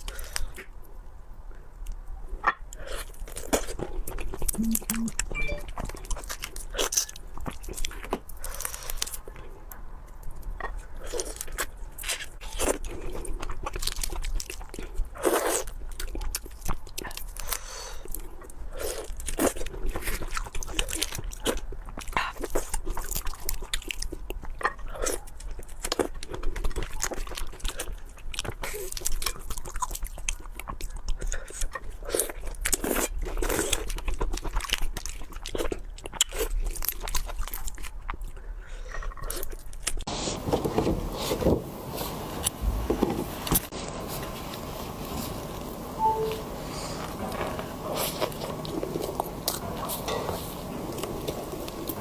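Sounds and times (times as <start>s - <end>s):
crunching and chewing crispy food: 0.0s - 41.4s, 46.8s - 52.0s.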